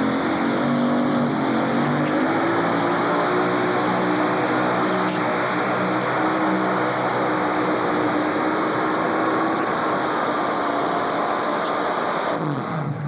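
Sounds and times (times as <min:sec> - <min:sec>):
tractor engines droning: 0:00.0 - 0:13.0.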